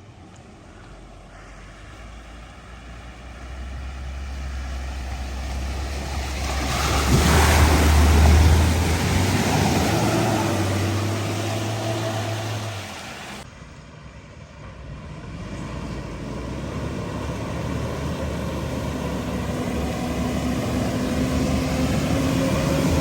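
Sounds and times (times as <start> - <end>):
vehicle engine hum: 0.0 - 23.0
water splashing from wheels: 1.7 - 13.5, 14.9 - 23.0.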